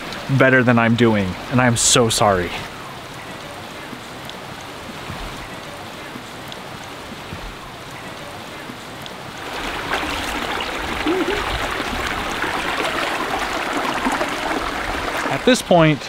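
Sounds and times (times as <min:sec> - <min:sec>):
creek water trickling: 0:00.0 - 0:16.0.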